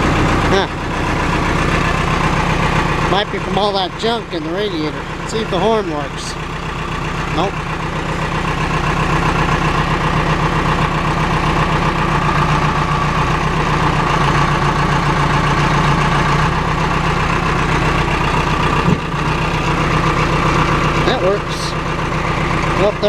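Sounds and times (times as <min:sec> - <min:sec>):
tractor diesel engine idling: 0:00.0 - 0:23.0.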